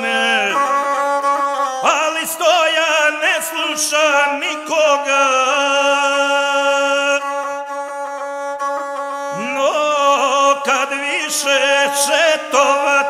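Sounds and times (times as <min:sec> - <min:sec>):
man singing: 0:00.0 - 0:07.8, 0:09.3 - 0:13.0
bowed single-string fiddle: 0:00.0 - 0:13.0.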